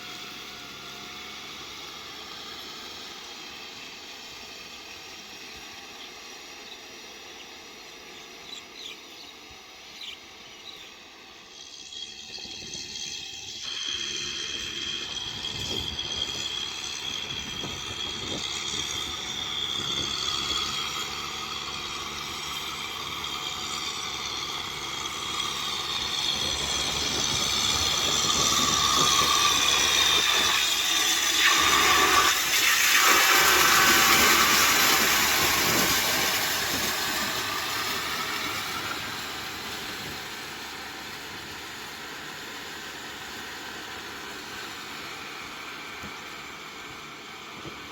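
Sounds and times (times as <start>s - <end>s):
tractor diesel engine running: 0.0s - 47.9s
rotavator hissing rush: 8.0s - 47.9s.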